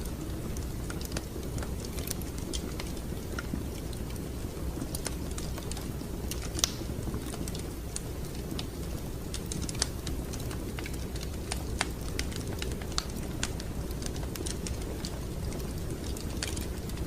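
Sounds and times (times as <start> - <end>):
low rumble of flames: 0.0 - 17.0
wood fire popping and snapping: 0.0 - 17.0.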